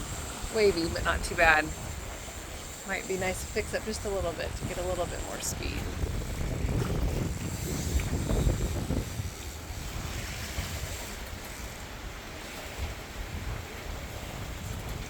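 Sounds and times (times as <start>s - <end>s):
waves washing past hull: 0.0s - 15.0s
wind buffeting microphone: 0.0s - 15.0s.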